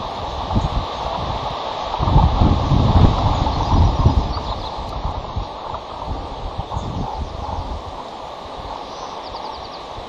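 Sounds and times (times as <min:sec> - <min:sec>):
wind gusting on microphone: 0:00.0 - 0:10.0.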